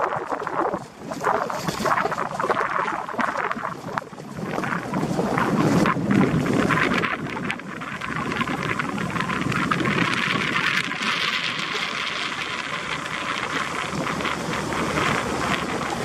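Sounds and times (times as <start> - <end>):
vehicle rumbling on dirt track: 0.0 - 16.0.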